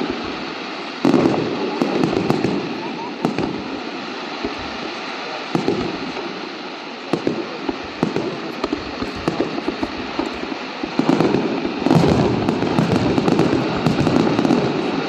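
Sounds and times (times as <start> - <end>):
fireworks bangs: 0.0 - 15.0
fireworks crackling pops: 0.0 - 15.0.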